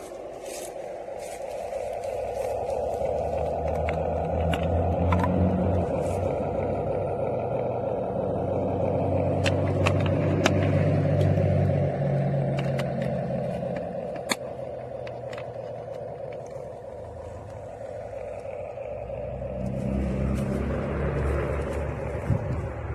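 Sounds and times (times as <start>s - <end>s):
toy truck electric motors whining: 0.0s - 22.9s
wheels clicking and scraping: 0.0s - 22.9s.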